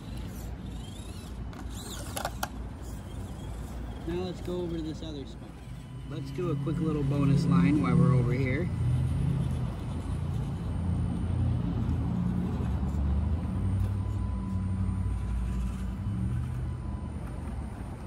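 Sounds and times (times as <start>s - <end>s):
toy motor whirring: 0.0s - 18.0s.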